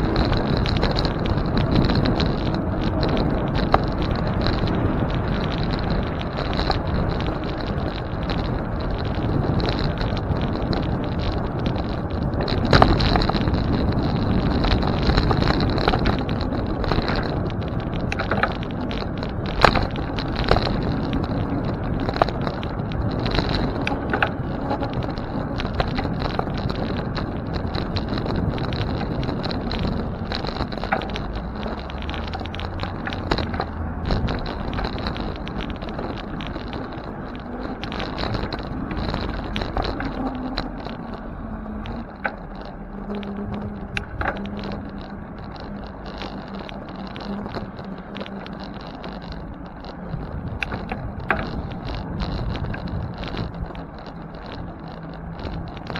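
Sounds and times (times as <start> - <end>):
bicycle tyres rumbling on road: 0.0 - 55.9
wind on microphone: 0.0 - 55.9.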